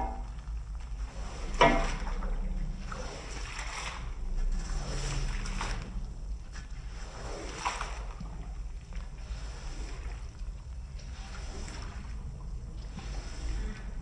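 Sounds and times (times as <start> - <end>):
washing machine motor hum: 0.0 - 14.0
water swishing and splashing: 0.0 - 14.0.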